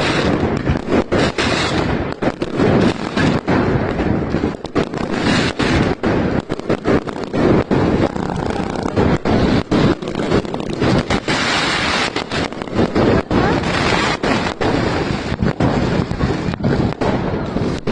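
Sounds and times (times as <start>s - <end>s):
fireworks bangs and crackle: 0.0s - 17.9s.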